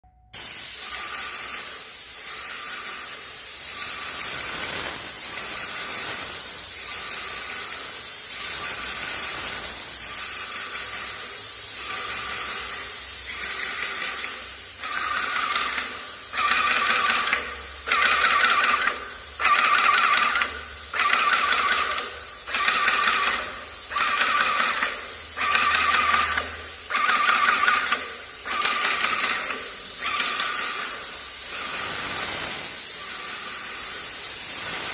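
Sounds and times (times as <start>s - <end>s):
paint sprayer hissing: 0.3s - 34.9s.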